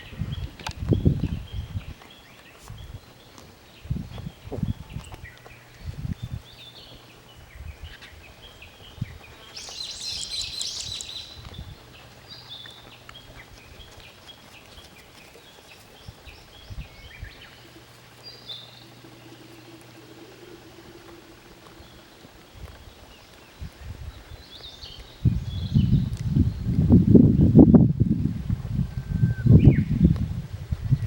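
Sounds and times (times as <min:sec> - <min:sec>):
small birds chirping: 0:00.0 - 0:27.6
faint steady hum: 0:00.0 - 0:31.0.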